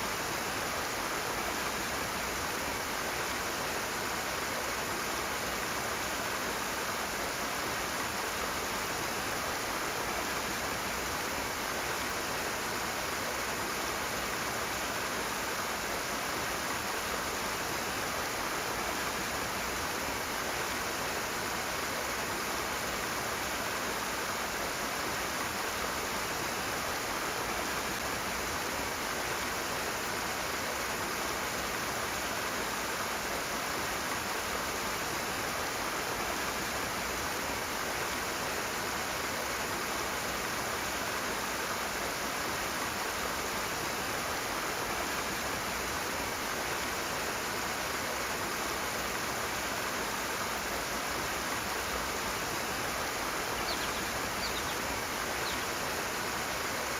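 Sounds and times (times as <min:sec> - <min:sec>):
fast-flowing stream water: 0:00.0 - 0:56.9.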